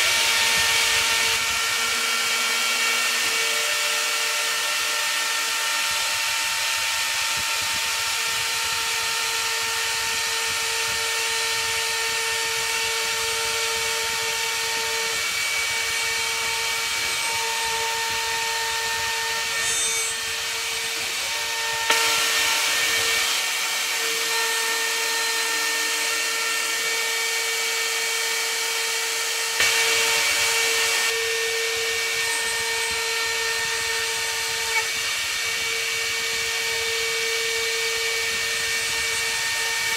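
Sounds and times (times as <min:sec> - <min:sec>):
router spindle whining: 0:00.0 - 0:39.9
wood cutting hiss: 0:00.0 - 0:39.9.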